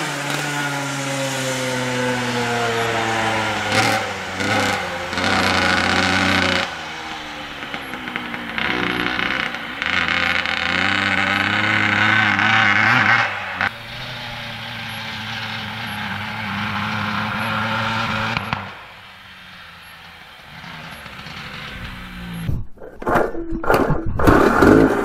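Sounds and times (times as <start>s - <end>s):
two-stroke motorcycle engine revving: 0.0s - 22.5s.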